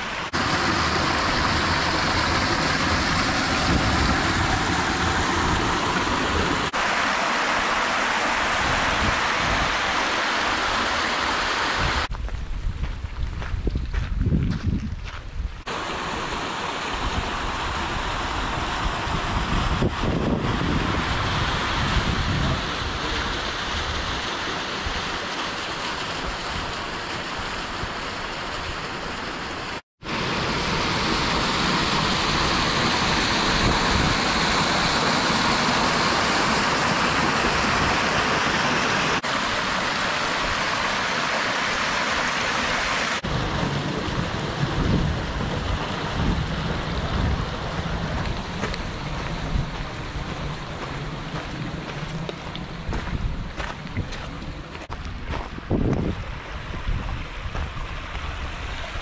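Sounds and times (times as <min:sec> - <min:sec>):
creek rushing over boulders: 0:00.0 - 0:12.2, 0:15.1 - 0:59.0.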